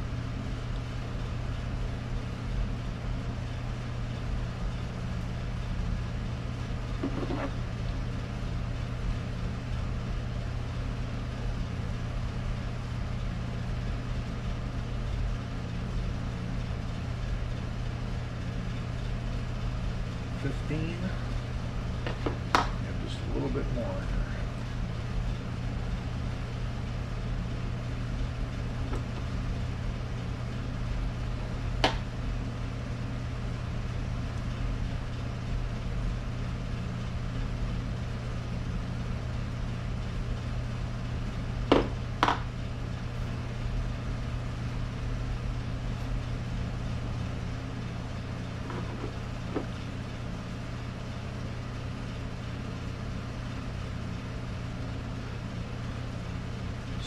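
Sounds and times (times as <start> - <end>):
low shop hum: 0.0 - 57.0.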